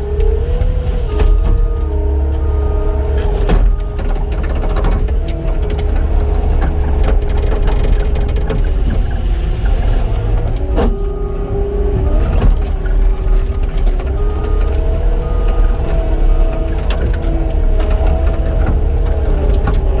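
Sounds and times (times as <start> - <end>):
diesel engine running under load: 0.0 - 20.0
hydraulic whine: 0.0 - 20.0.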